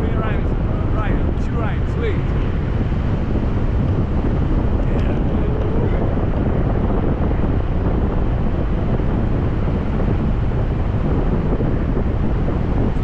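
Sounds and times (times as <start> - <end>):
wind roaring over microphone: 0.0 - 13.0.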